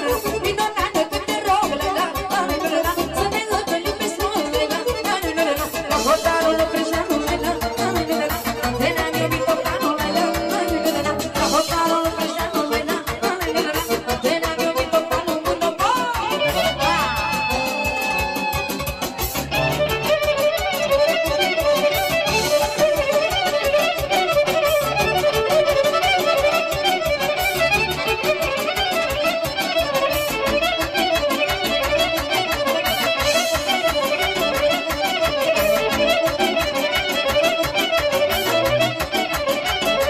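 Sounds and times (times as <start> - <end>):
accordion: 0.0 - 40.0
quick steady beat: 0.0 - 40.0
violin: 0.0 - 40.0.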